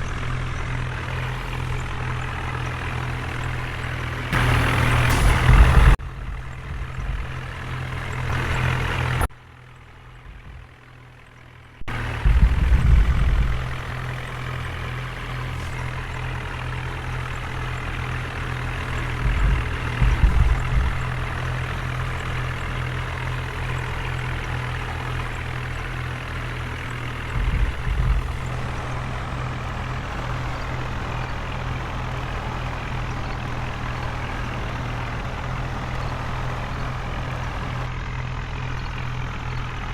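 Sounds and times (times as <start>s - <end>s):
short loud low rumbles: 0.0s - 9.3s, 10.0s - 11.2s, 11.8s - 37.9s
diesel engine running: 0.0s - 39.9s.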